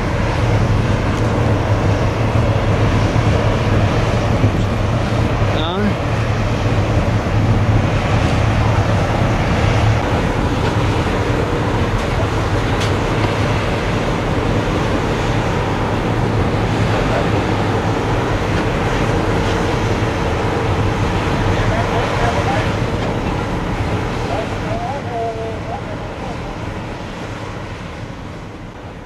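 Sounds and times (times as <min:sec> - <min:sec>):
ship engines droning: 0:00.0 - 0:29.0.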